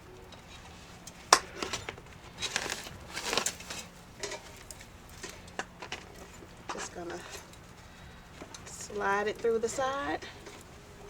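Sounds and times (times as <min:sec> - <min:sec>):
tubing rustling and scraping: 0:00.0 - 0:11.0.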